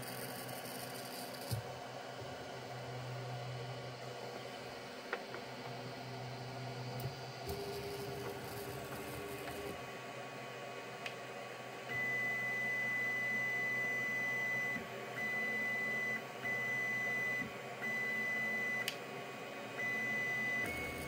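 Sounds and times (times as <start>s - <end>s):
cooling fans humming: 0.0s - 21.0s.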